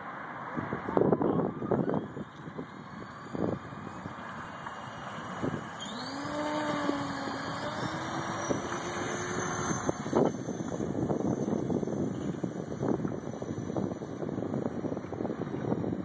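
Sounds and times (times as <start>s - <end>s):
wind on microphone: 0.5s - 16.0s
helicopter motor whine rising: 1.2s - 16.0s.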